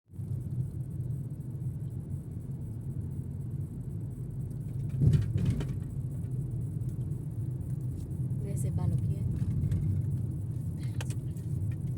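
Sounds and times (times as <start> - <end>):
car engine rumble inside cabin: 0.1 - 11.9.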